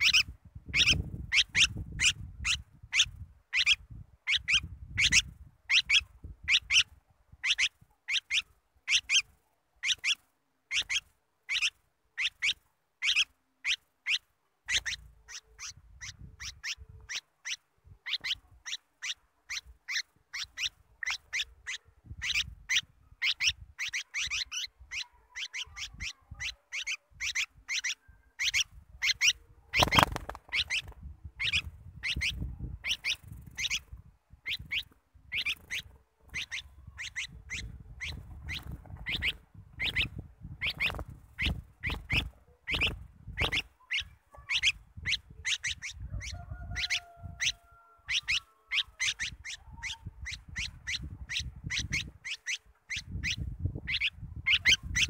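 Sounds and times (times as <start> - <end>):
bird calling sharp notes: 0.0 - 55.0.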